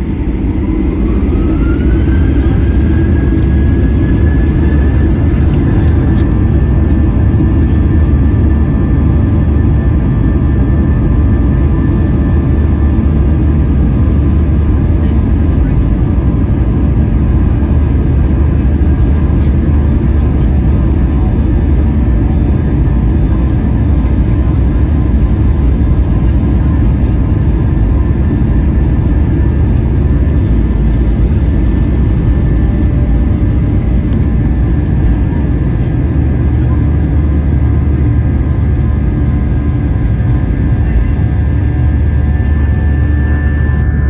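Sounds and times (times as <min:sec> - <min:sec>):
deep runway rumble: 0:00.0 - 0:44.0
jet engines at takeoff thrust: 0:00.0 - 0:44.0.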